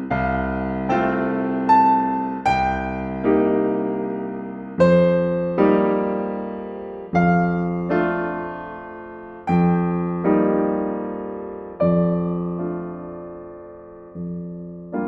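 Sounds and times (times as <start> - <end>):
gentle solo piano chords: 0.0 - 15.0.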